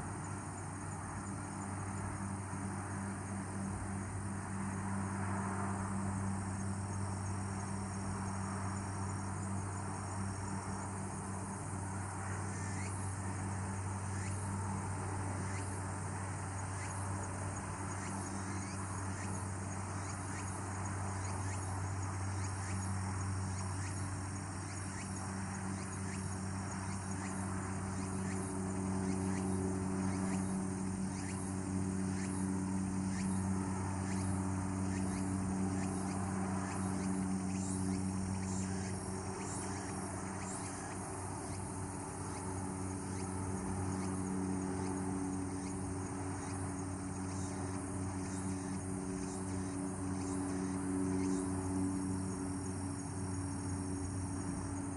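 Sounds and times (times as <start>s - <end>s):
insects chirping: 0.0s - 54.9s.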